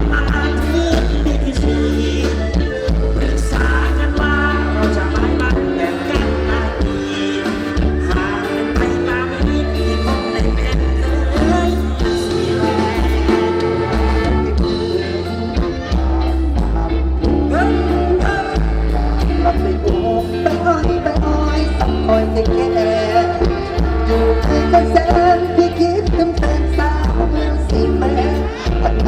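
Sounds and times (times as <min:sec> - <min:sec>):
live band music: 0:00.0 - 0:29.0
person singing: 0:00.0 - 0:29.0.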